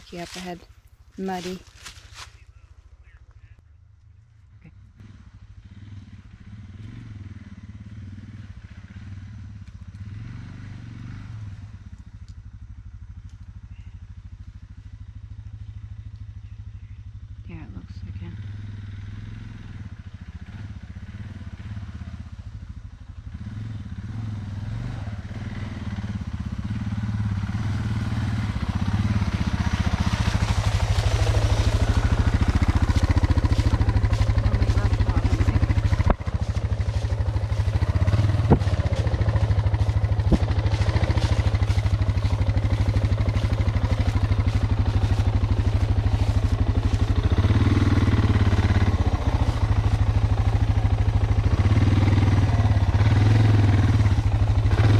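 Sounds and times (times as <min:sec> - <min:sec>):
single-cylinder engine running: 0:04.7 - 0:54.9.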